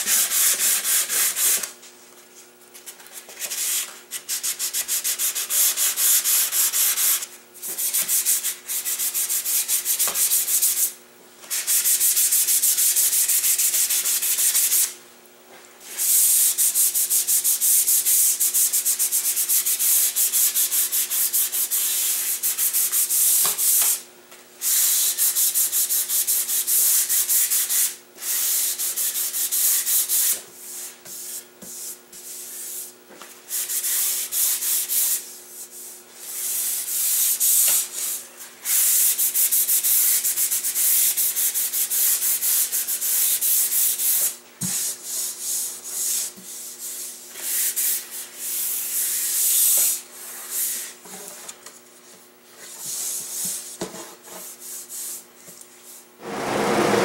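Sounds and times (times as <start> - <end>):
sandpaper sanding wood: 0.0 - 1.7, 3.4 - 14.9, 15.9 - 24.0, 24.6 - 51.0, 54.2 - 55.2.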